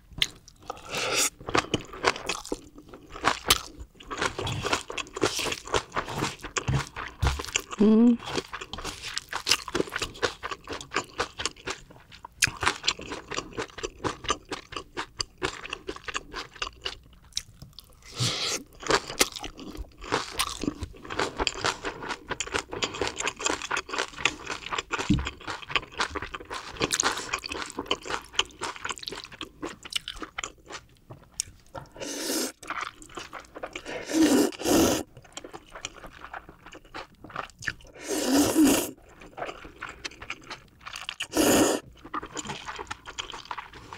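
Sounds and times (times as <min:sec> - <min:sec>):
crunchy chewing: 0:00.3 - 0:43.9.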